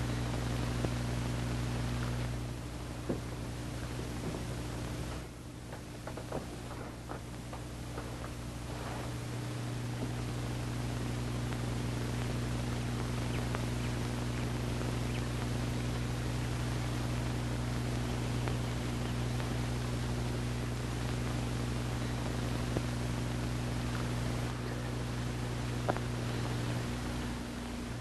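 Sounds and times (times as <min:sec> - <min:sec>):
low hum with hiss: 0:00.0 - 0:28.0.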